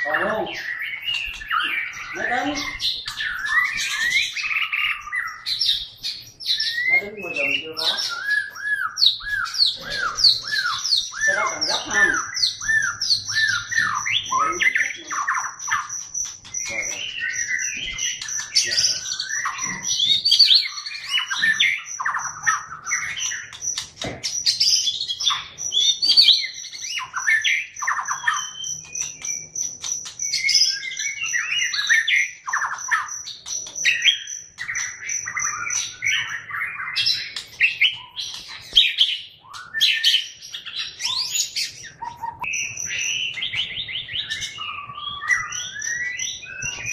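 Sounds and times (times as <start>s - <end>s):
bird singing whistled phrases: 0.0s - 46.9s.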